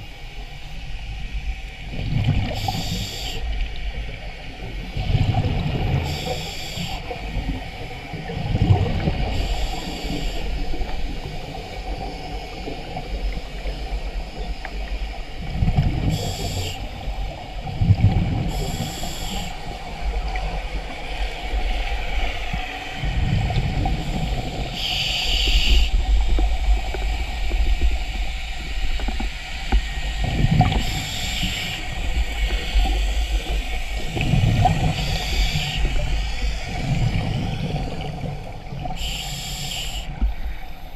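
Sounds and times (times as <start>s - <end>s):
low water rumble: 0.0s - 40.9s
exhaled bubbles bubbling: 1.9s - 40.9s
regulator inhale hiss: 2.4s - 4.1s, 5.0s - 8.2s, 9.2s - 15.2s, 16.0s - 40.9s.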